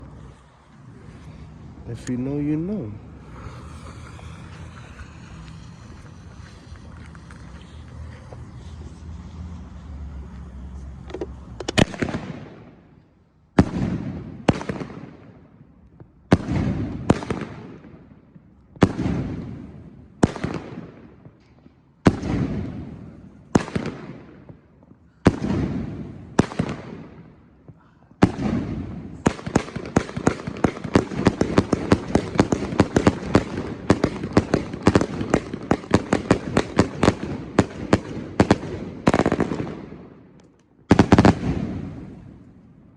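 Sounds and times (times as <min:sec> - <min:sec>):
firework shots with crackling tails: 0:00.0 - 0:09.8, 0:11.3 - 0:42.9
rapid firework barrage: 0:00.0 - 0:09.8, 0:11.8 - 0:12.8, 0:13.6 - 0:15.4, 0:16.3 - 0:18.2, 0:18.8 - 0:21.4, 0:22.0 - 0:40.2, 0:40.9 - 0:42.5.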